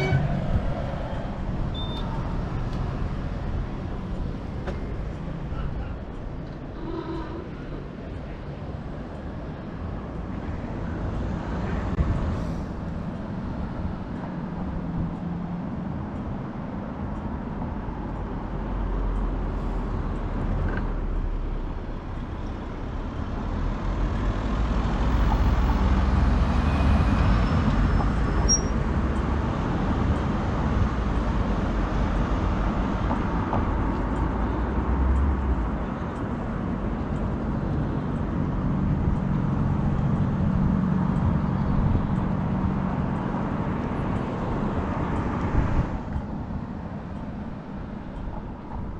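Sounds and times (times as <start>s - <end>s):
road and traffic noise: 0.0s - 48.9s.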